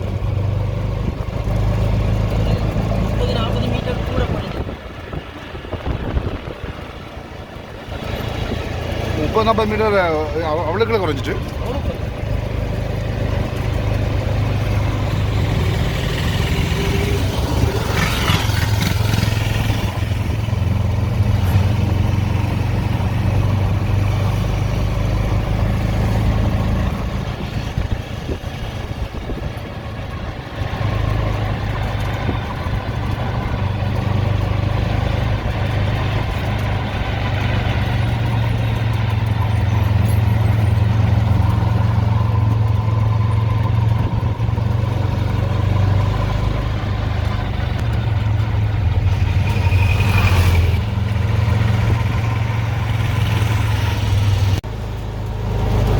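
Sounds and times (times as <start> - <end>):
road noise: 0.0 - 55.9
vehicle engine hum: 0.0 - 55.9.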